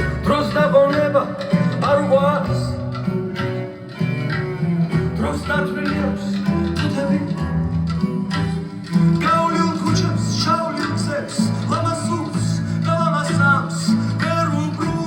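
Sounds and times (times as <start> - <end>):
folk song with guitar: 0.0 - 15.0.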